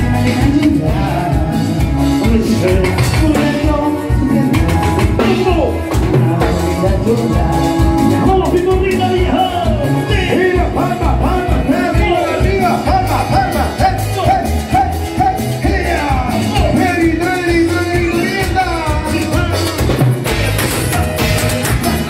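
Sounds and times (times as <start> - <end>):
latin dance band music: 0.0 - 22.0.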